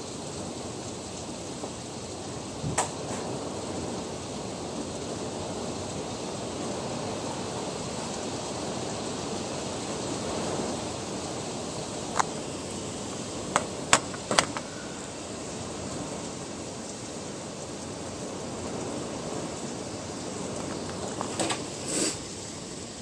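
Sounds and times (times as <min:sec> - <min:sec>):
heavy rain and wind: 0:00.0 - 0:23.0.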